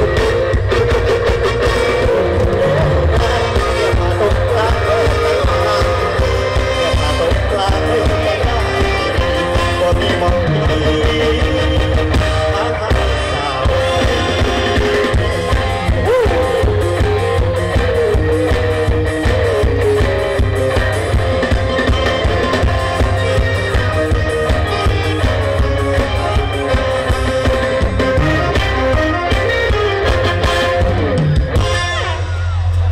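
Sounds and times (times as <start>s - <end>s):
person singing: 0.0s - 31.0s
drum and bass beat: 0.0s - 32.9s
guitar: 0.0s - 32.9s.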